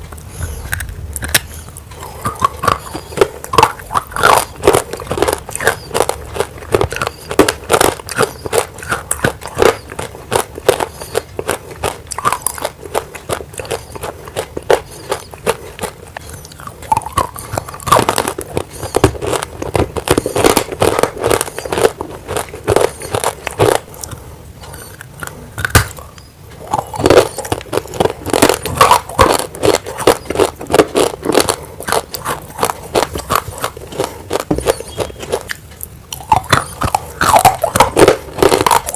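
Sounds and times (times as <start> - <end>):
clay crunching being chewed: 0.0 - 38.9.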